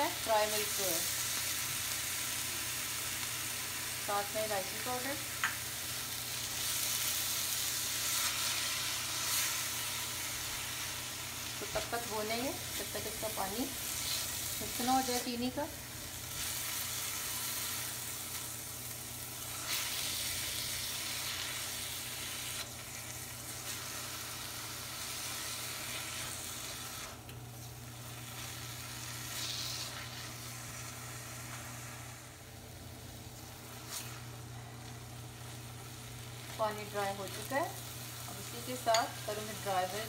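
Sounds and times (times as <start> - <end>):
food sizzling in a wok: 0.0 - 40.0.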